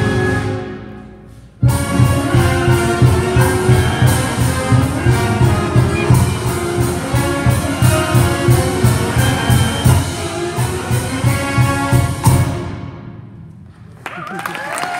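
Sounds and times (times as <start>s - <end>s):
concert band playing: 0.0s - 13.2s.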